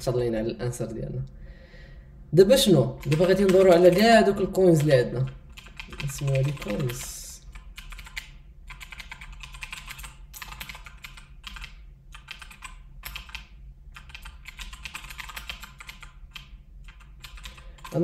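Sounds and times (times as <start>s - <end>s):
keyboard typing: 2.8s - 18.0s.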